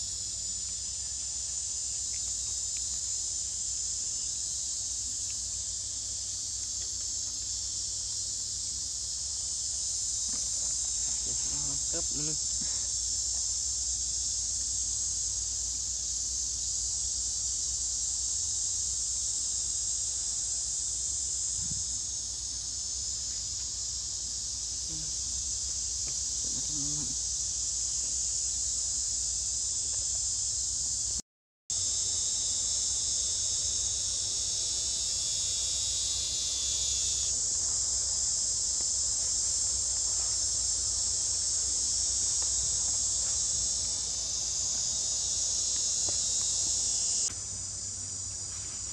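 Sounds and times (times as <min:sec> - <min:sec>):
pulsing insect call: 0:00.0 - 0:31.2, 0:31.8 - 0:48.9
high-pitched insect chorus: 0:00.0 - 0:48.9.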